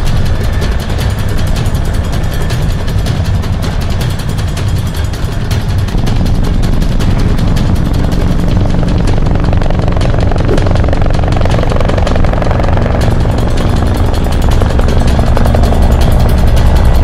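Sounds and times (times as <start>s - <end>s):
vehicle engine at high speed: 0.0s - 17.0s.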